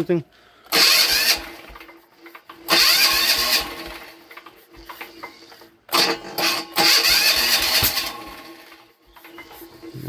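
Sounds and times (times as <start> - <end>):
electric starter cranking engine: 0.6 - 10.0.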